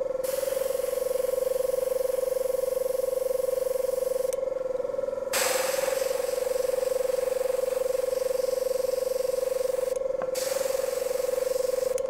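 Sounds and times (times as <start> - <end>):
air compressor buzzing: 0.0 - 12.0
airbrush hissing: 0.2 - 4.4, 5.4 - 12.0.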